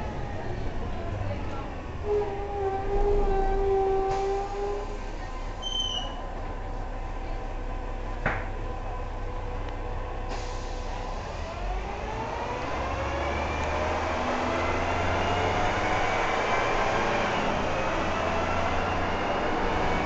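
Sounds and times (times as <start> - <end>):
bus engine accelerating: 0.0 - 20.0.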